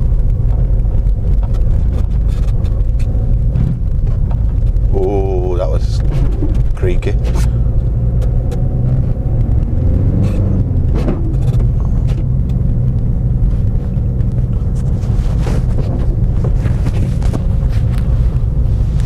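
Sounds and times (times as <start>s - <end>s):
car engine and road rumble: 0.0s - 19.0s
constant hum: 0.0s - 19.0s.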